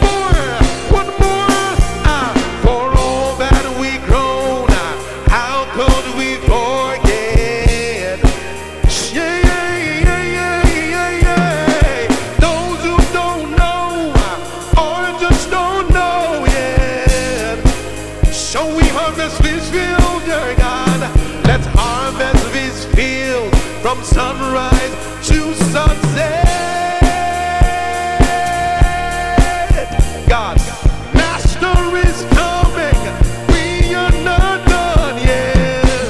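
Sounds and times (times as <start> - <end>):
bass: 0.0 - 36.0
drum kit beat: 0.0 - 36.0
gliding melodic lead: 0.0 - 36.0.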